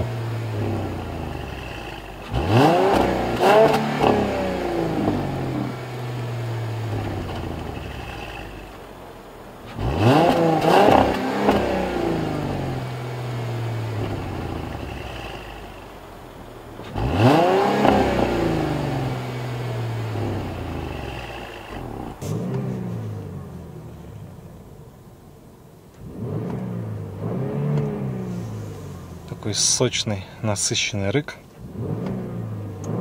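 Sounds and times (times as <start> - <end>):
car engine revving from idle: 0.0 - 29.7, 31.4 - 33.0.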